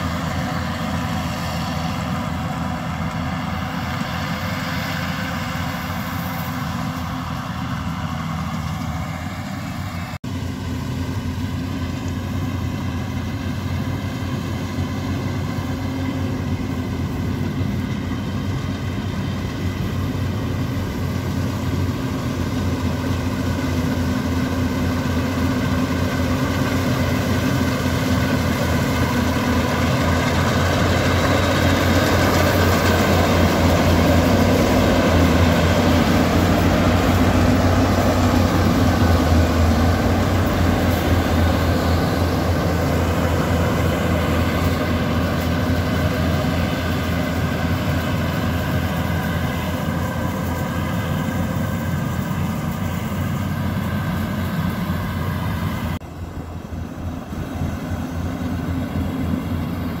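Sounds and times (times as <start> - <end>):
combine harvester diesel engine: 0.0 - 60.0.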